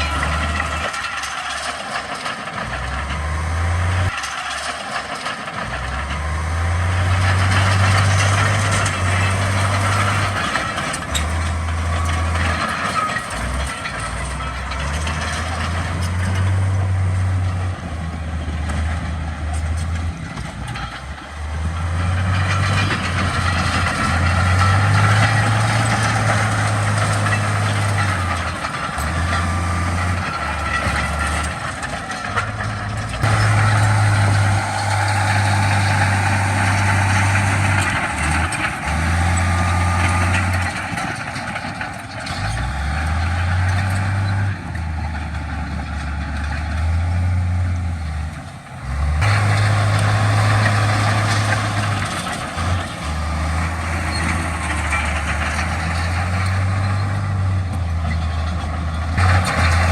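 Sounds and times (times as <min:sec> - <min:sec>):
diesel machinery engine: 0:00.0 - 0:59.9.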